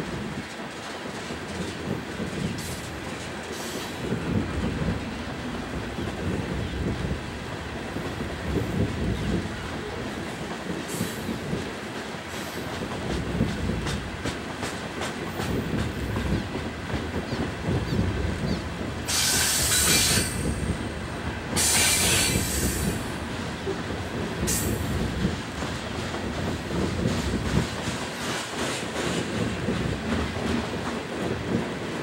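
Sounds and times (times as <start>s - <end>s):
wheels rumbling on rails: 0.0s - 32.0s.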